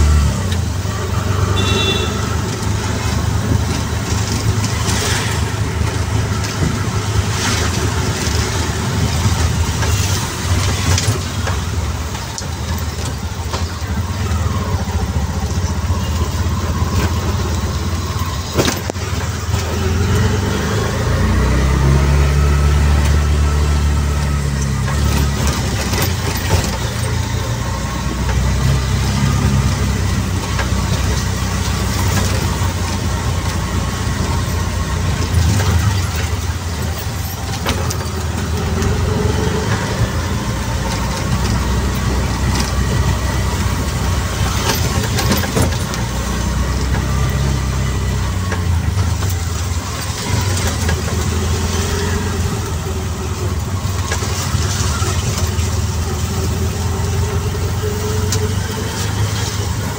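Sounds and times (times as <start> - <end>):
street traffic noise: 0.0 - 59.9.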